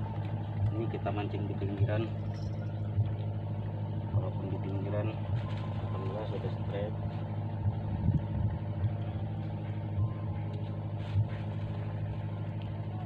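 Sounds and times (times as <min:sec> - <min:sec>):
motor engine droning: 0:00.0 - 0:13.0.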